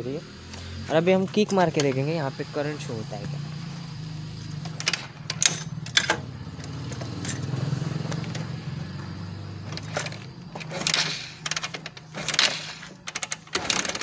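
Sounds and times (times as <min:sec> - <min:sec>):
engine turning over without firing: 0:00.4 - 0:14.0.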